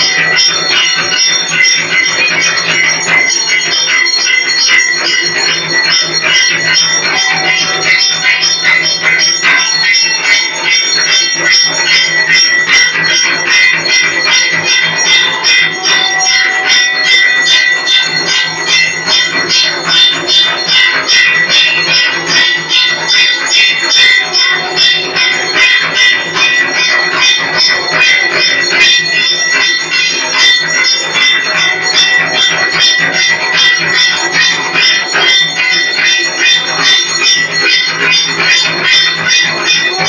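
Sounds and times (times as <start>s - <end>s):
bells ringing: 0.0s - 40.0s.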